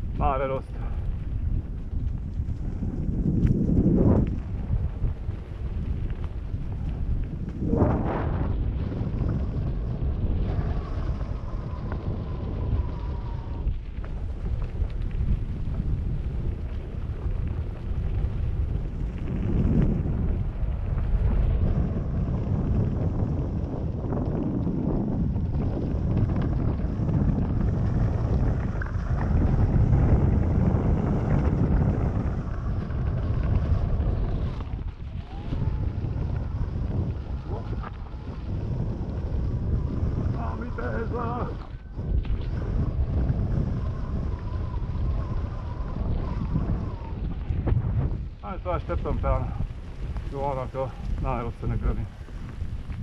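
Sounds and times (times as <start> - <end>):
low rumble of bike ride: 0.0 - 53.0
wind buffeting microphone: 0.0 - 53.0.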